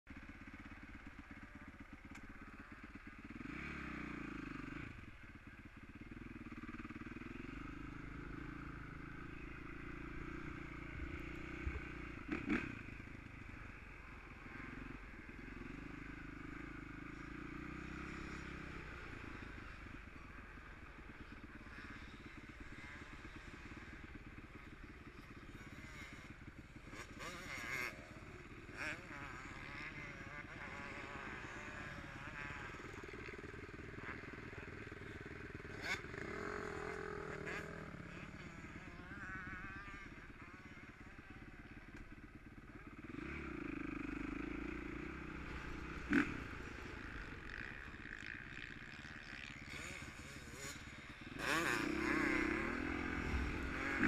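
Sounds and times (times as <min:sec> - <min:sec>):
motocross bike engine revving: 0:00.2 - 0:54.0.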